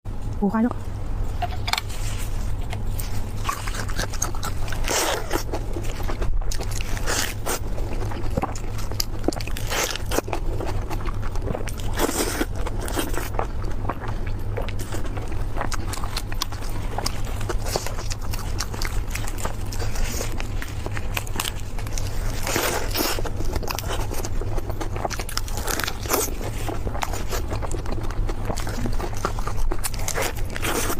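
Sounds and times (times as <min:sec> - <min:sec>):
steady low hum: 0:00.1 - 0:30.9
person biting and chewing: 0:01.3 - 0:30.9.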